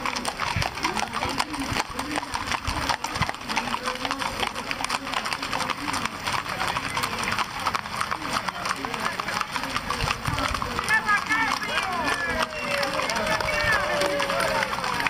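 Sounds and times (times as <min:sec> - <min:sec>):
horse hooves clip-clopping: 0:00.0 - 0:15.0
people talking: 0:00.0 - 0:15.0.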